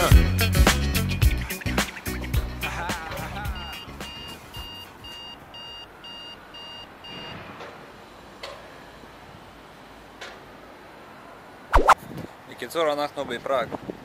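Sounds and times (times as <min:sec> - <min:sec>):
faint outdoor background noise: 0:01.0 - 0:14.0.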